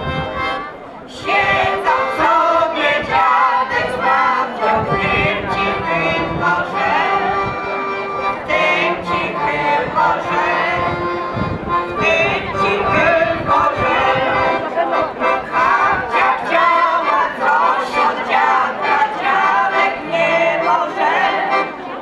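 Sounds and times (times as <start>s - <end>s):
accordion holding steady notes: 0.0s - 22.0s
women singing folk song in chorus: 1.1s - 7.6s, 8.3s - 11.1s, 12.0s - 21.8s.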